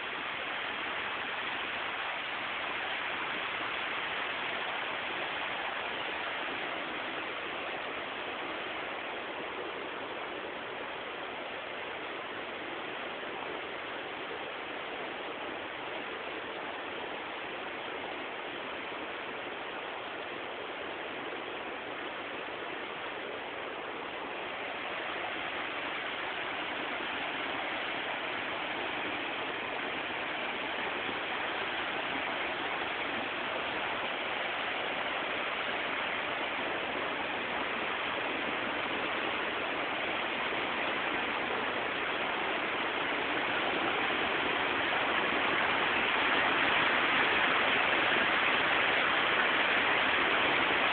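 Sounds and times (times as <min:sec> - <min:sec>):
river rushing over rocks: 0:00.0 - 0:50.9.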